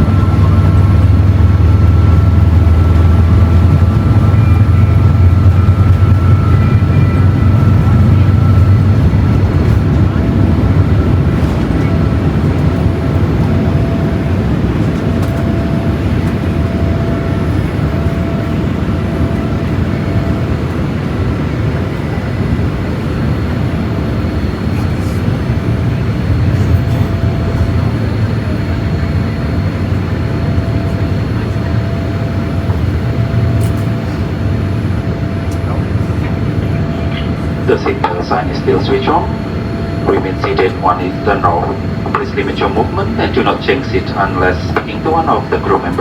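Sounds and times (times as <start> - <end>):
aircraft cabin engine rush: 0.0 - 46.0.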